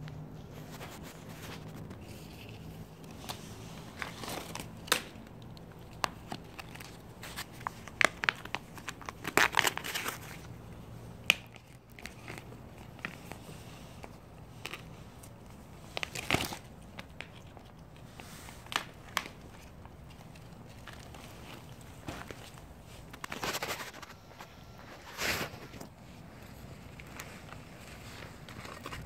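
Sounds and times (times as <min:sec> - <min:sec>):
plastic pouch crinkling and tearing: 0:00.8 - 0:10.6, 0:11.2 - 0:29.0.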